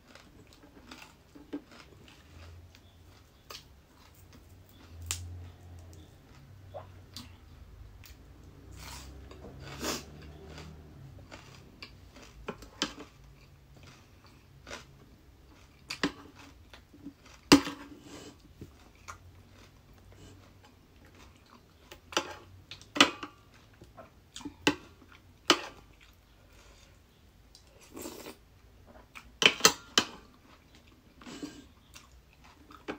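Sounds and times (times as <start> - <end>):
chewing crunchy raw vegetables: 0.0 - 29.4.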